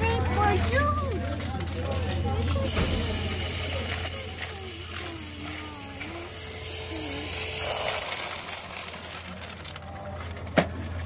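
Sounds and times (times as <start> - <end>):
coin-counting machine hum: 0.0 - 11.0
coins clattering: 0.0 - 11.0.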